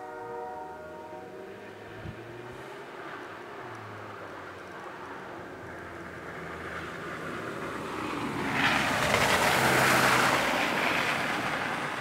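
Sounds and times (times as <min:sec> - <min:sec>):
distant locomotive engine drone: 0:00.0 - 0:12.0.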